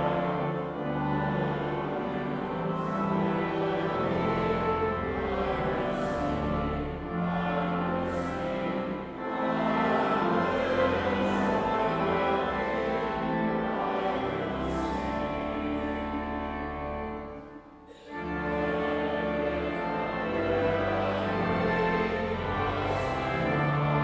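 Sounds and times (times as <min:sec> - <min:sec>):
slow orchestral music: 0:00.0 - 0:24.0.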